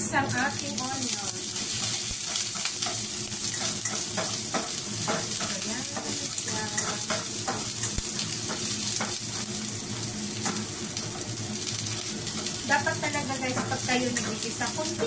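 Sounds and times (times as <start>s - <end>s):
garlic and onions sizzling: 0.0s - 15.0s.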